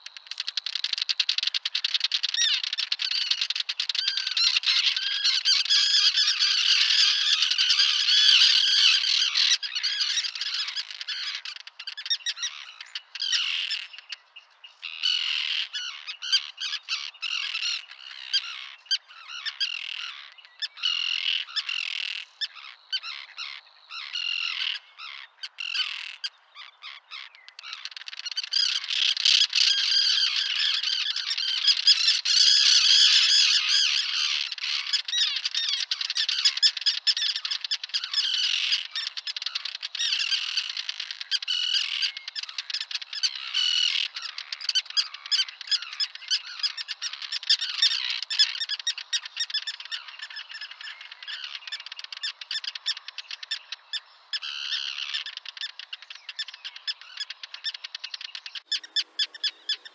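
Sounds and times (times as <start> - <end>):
terns calling harshly: 0.0 - 59.9.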